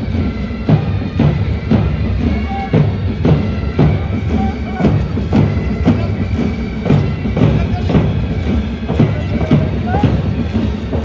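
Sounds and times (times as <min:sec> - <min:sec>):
military march music: 0:00.0 - 0:11.0
steady drumbeat: 0:00.0 - 0:11.0.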